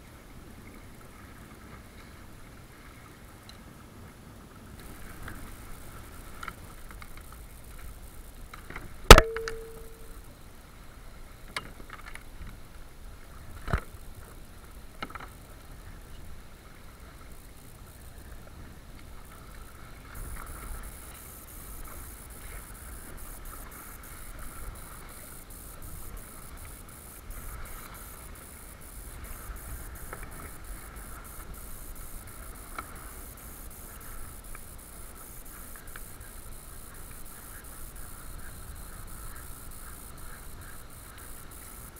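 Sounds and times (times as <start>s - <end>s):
wind: 0.0s - 41.9s.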